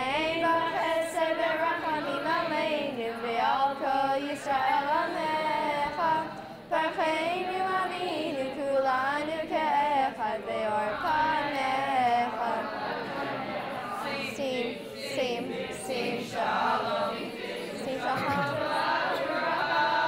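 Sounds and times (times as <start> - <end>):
girls chanting a sung prayer: 0.0 - 20.0.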